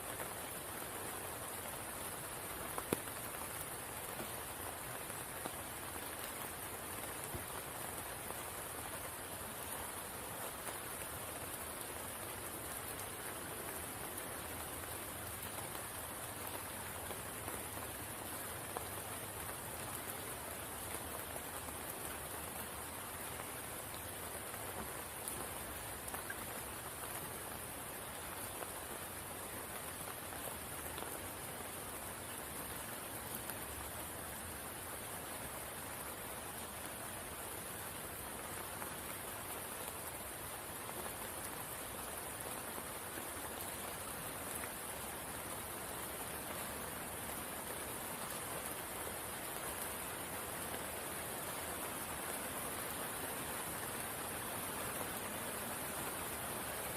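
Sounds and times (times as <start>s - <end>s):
rain falling on a pool: 0.0s - 56.9s.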